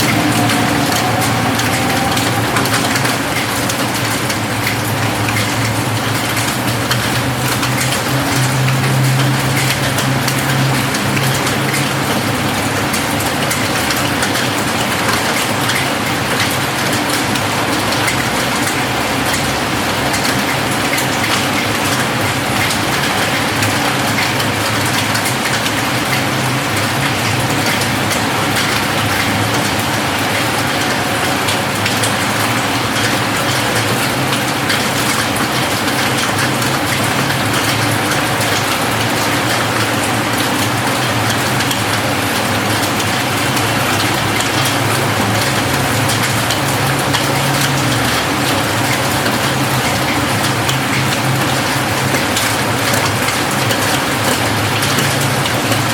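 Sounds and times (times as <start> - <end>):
rain falling on a roof: 0.0 - 55.9.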